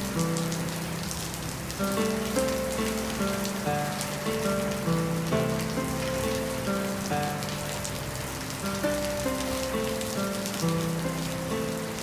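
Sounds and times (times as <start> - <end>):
rain on wet tiles: 0.0 - 12.0
raindrops ticking: 0.0 - 12.0
slow melody of held notes: 0.0 - 12.0.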